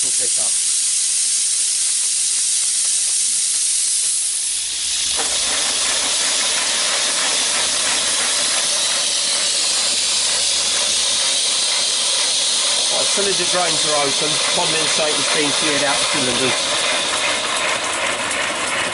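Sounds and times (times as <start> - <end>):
steam hissing: 0.0 - 18.9.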